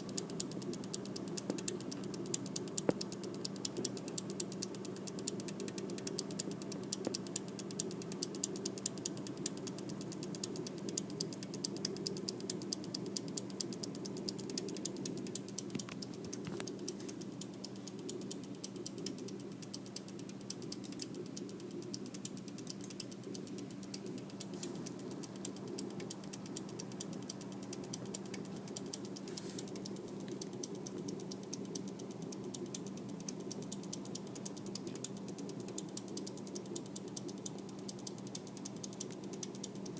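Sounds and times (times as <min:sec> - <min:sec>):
power supply hum: 0:00.0 - 0:39.9
power supply ticking: 0:00.0 - 0:39.9.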